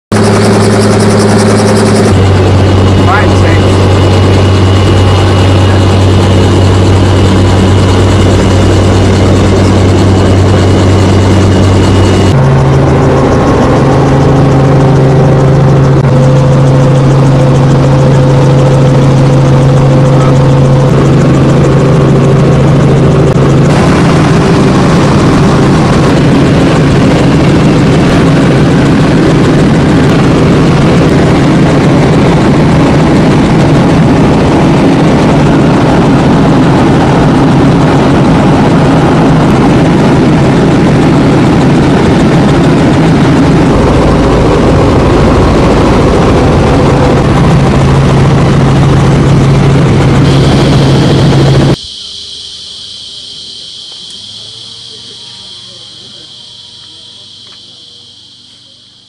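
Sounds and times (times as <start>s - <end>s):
helicopter rotor and engine drone: 0.1s - 59.0s
steady low hum: 0.1s - 59.0s.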